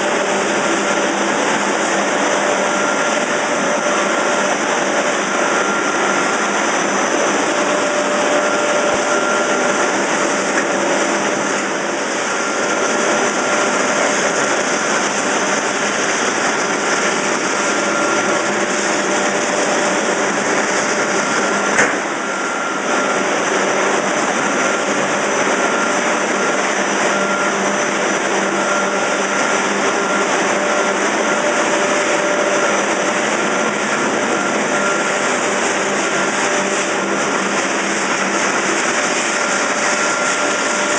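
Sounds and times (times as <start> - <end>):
constant machine tones: 0.0 - 40.9
factory machinery hum and whir: 0.0 - 40.9.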